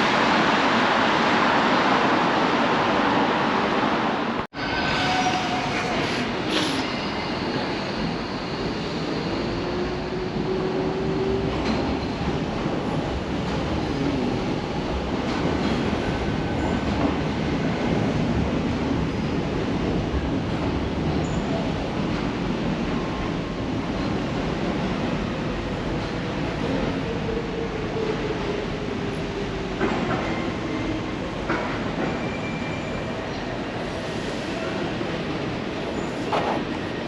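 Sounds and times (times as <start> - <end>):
train wheels rumbling on track: 4.1 - 37.0.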